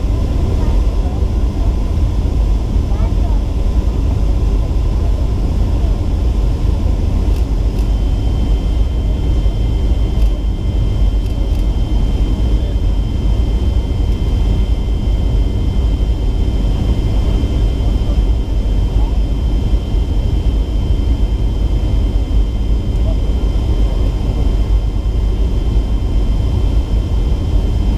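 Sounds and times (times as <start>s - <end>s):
airplane cabin rumble: 0.0s - 27.9s.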